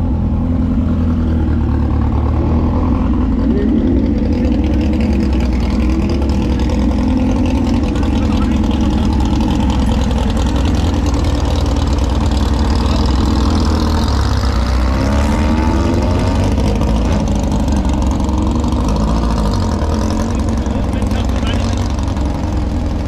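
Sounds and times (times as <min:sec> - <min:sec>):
second engine revving: 0:00.0 - 0:23.0
vehicle engine idling: 0:00.0 - 0:23.0.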